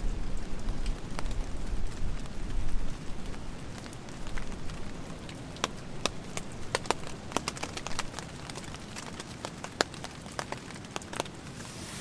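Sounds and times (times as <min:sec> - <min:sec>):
raindrops tapping on a tarp: 0:00.0 - 0:12.0
steady rain: 0:00.0 - 0:12.0.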